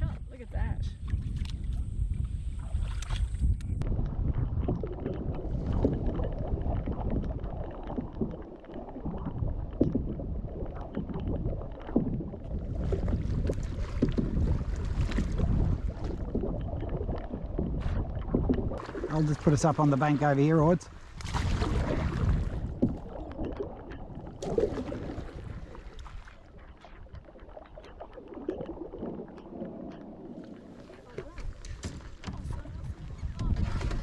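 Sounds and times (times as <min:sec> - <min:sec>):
wind buffeting microphone: 0:00.0 - 0:34.0
water splashing around canoe: 0:00.6 - 0:34.0.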